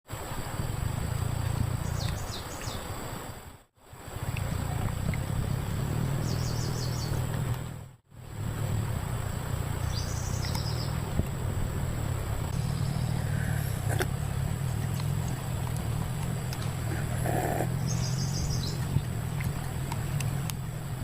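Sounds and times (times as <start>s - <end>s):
low rumbling noise: 0.2s - 2.6s, 3.8s - 21.0s
birds chirping: 0.8s - 3.4s, 4.3s - 7.9s, 9.3s - 21.0s.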